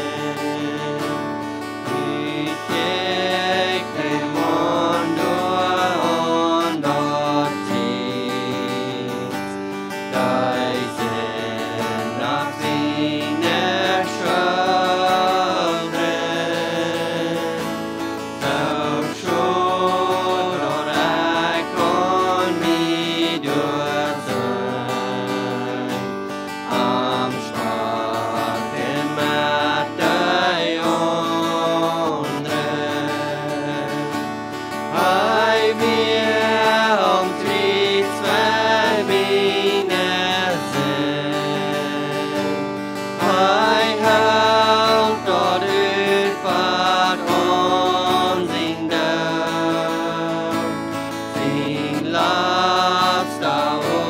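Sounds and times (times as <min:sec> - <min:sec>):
strummed acoustic guitar: 0:00.0 - 0:54.0
woman and man singing: 0:00.0 - 0:54.0.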